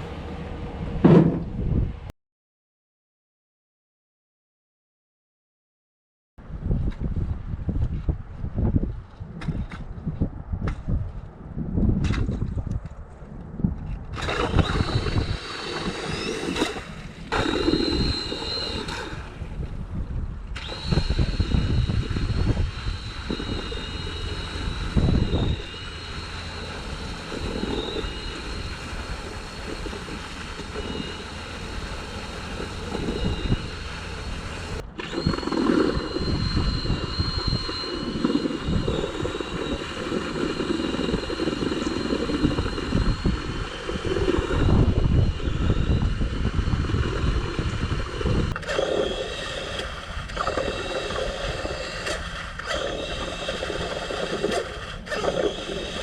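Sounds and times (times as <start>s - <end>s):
engine running with high whine: 0.0s - 2.1s, 6.5s - 56.0s.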